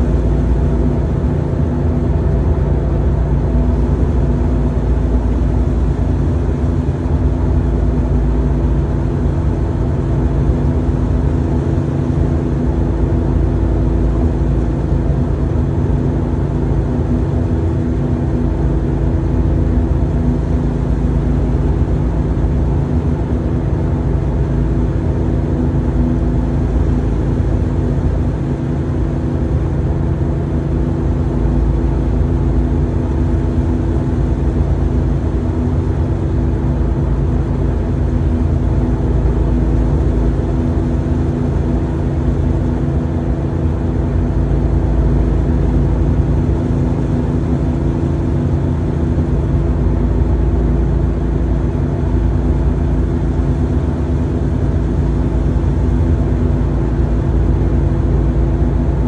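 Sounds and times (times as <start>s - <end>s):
car engine running: 0.0s - 59.0s
road noise: 0.0s - 59.0s.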